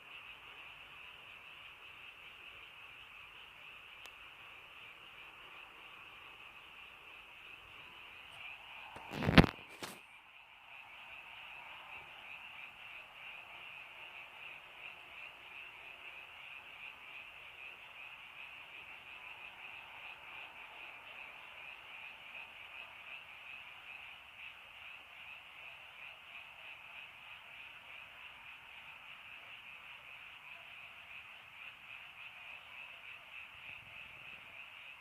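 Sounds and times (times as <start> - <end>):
frogs calling: 0.0 - 35.0.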